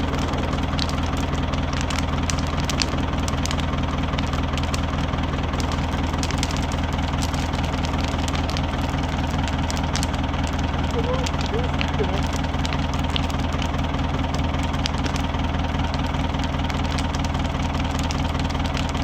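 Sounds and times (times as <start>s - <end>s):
diesel engine idling: 0.0s - 19.0s
sharp pops or ticks: 0.0s - 19.0s.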